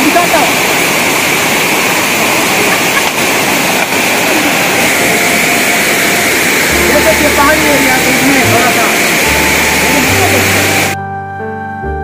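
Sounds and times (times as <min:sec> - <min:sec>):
waterfall crashing onto rocks: 0:00.0 - 0:11.0.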